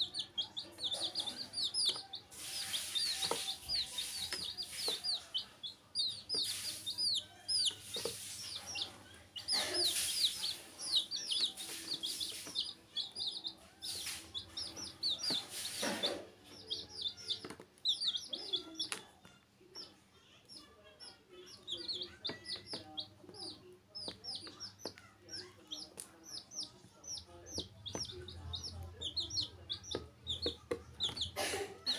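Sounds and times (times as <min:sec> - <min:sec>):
baby chicks peeping: 0:00.0 - 0:31.9.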